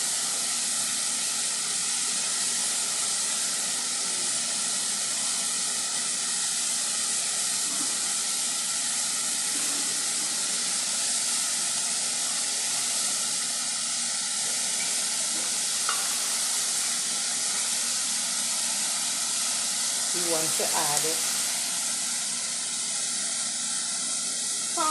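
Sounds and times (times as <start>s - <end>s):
sausages sizzling in a pan: 0.0s - 24.9s.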